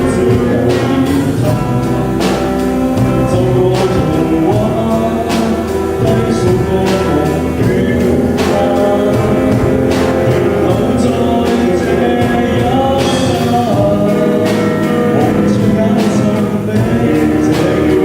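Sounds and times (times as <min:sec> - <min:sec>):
band playing a song: 0:00.0 - 0:18.0
drum hits: 0:00.0 - 0:18.0
person singing: 0:00.0 - 0:18.0.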